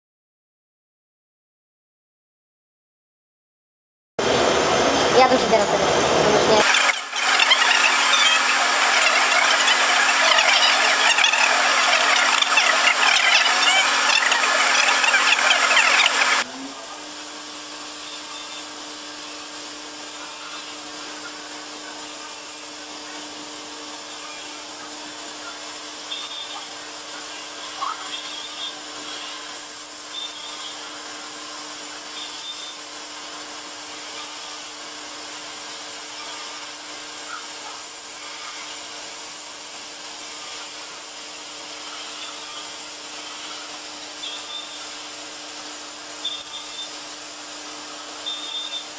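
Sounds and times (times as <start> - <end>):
milling machine spindle hum: 4.2 - 48.9.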